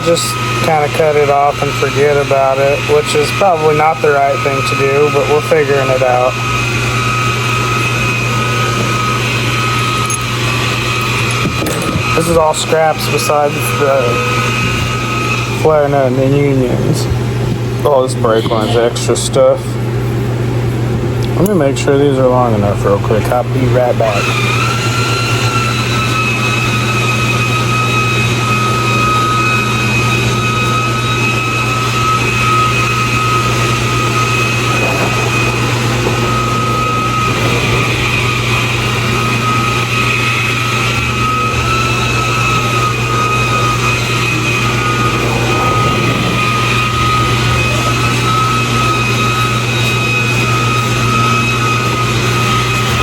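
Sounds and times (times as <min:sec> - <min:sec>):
high-pitched machine whine: 0:00.0 - 0:53.0
shop machinery hum: 0:00.0 - 0:53.0.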